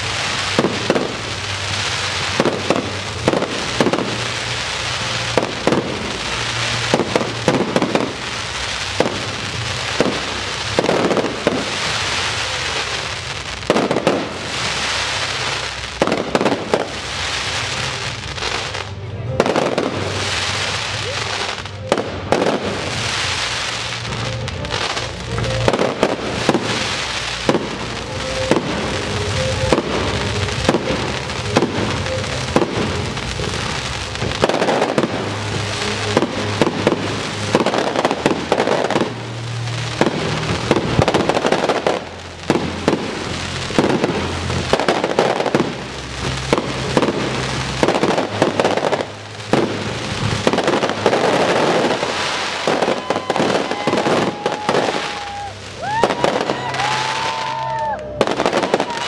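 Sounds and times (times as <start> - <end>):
background music: 0.0 - 59.0
fireworks bangs and crackling: 0.0 - 59.0.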